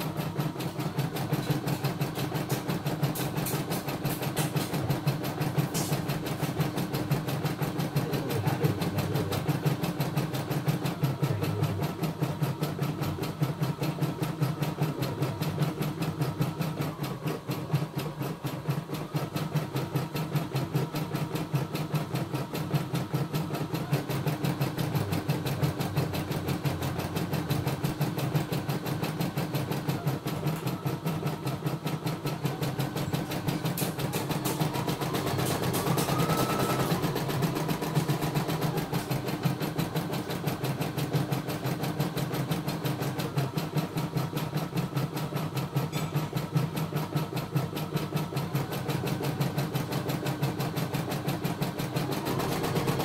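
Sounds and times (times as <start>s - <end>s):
embroidery machine stitching: 0.0s - 53.0s.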